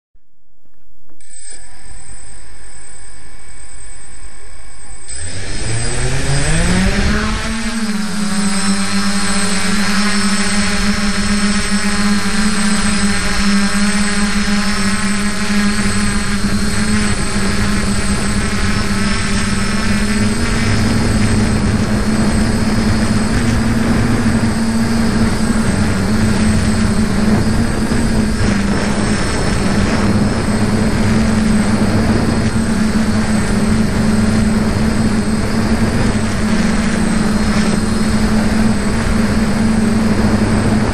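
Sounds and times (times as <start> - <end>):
quadcopter motors buzzing: 1.2 - 40.9.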